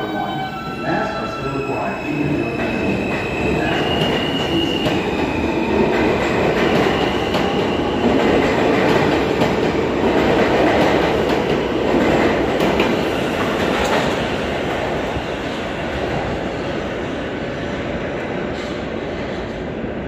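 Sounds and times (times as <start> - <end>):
subway train wheels rumbling on rail: 0.0 - 20.0.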